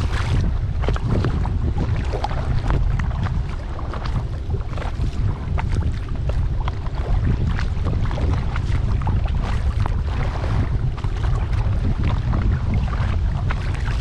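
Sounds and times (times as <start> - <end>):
paddle splashing water: 0.0 - 14.0
wind rumble on microphone: 0.0 - 14.0.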